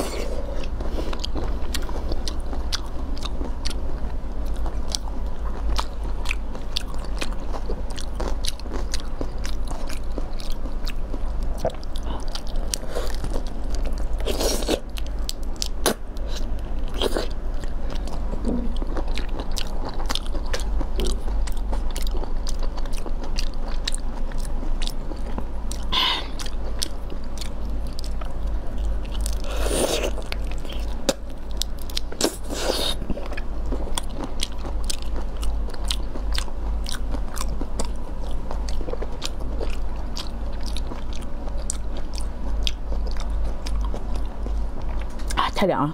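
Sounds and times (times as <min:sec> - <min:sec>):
chewing and biting food: 0:00.0 - 0:45.4
steady low hum: 0:00.0 - 0:45.9.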